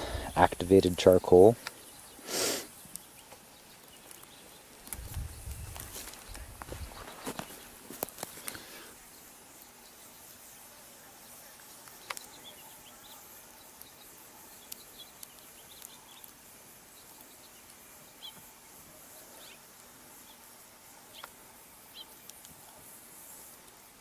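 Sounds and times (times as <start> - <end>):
birds chirping: 0.0 - 22.2
faint outdoor ambience: 0.0 - 24.0.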